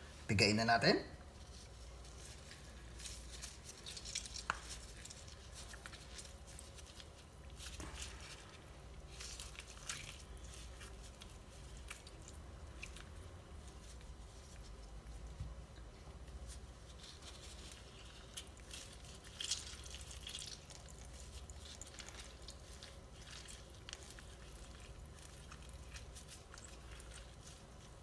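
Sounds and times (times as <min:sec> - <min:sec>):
wet squishing of lemon pulp: 0:01.3 - 0:28.0.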